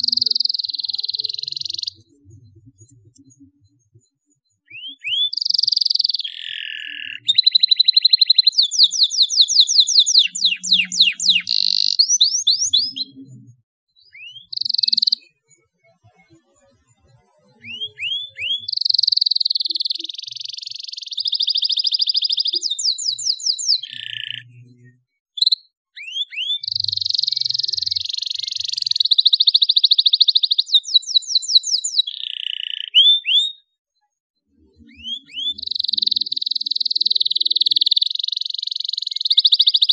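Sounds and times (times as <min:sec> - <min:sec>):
canary singing trills: 0:00.0 - 0:33.8, 0:34.4 - 0:39.9.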